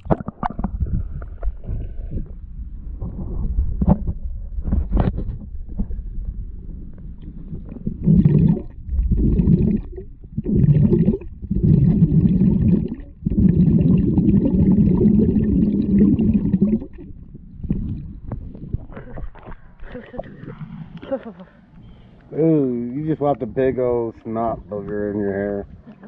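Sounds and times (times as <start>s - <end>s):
muffled water gurgling and sloshing: 0.0s - 21.3s.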